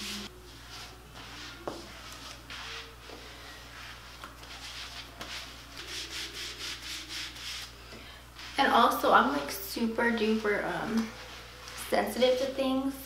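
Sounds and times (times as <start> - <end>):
mitt swishing over skin: 0.0 - 12.6.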